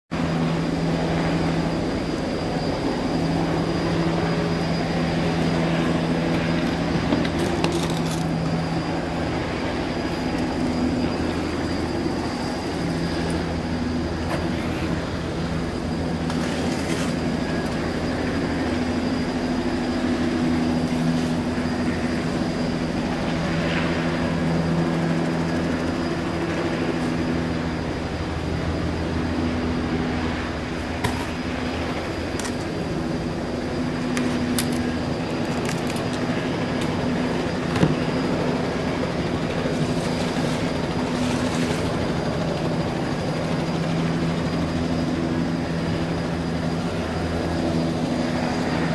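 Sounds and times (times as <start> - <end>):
low mechanical drone: 0.1 - 48.9.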